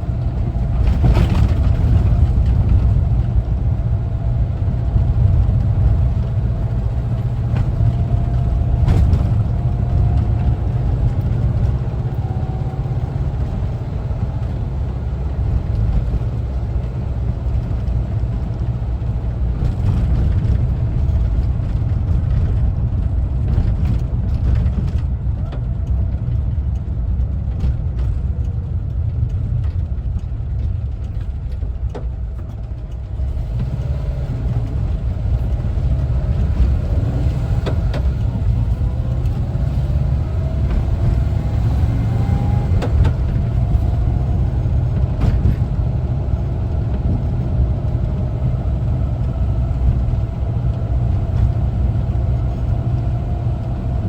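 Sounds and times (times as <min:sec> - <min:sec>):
van engine rumbling while driving: 0:00.0 - 0:54.0.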